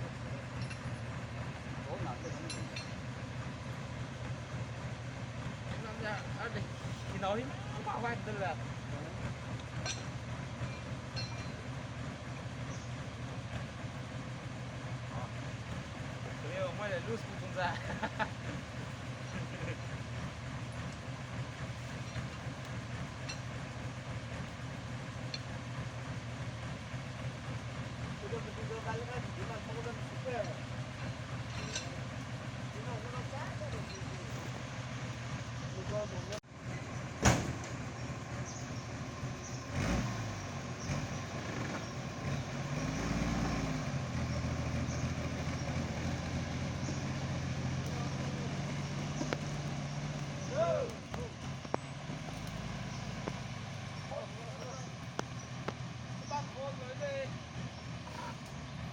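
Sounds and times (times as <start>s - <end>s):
truck engine running: 0.0s - 58.9s.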